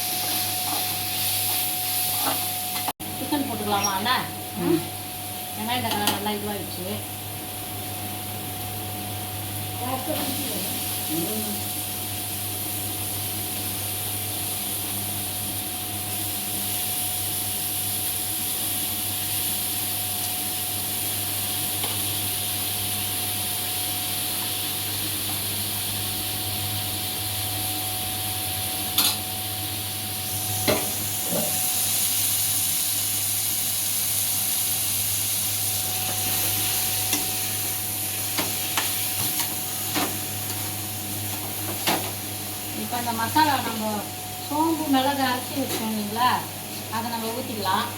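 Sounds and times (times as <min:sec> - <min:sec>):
food sizzling in hot oil: 0:00.0 - 0:47.9.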